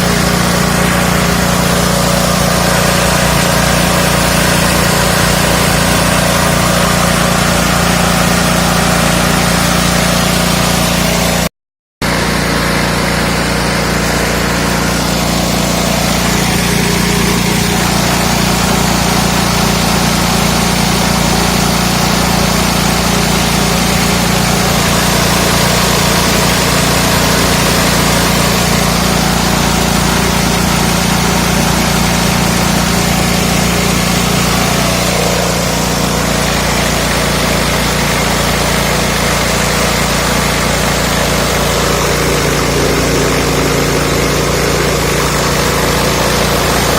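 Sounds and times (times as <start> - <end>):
milling machine hiss: 0.0 - 11.4, 13.2 - 46.9
small petrol engine running: 0.0 - 46.9.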